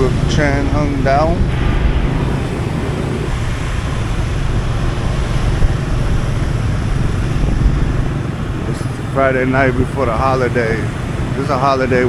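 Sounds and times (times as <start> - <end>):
motorbike engine running: 0.0 - 12.0
wind buffeting microphone: 0.0 - 12.0.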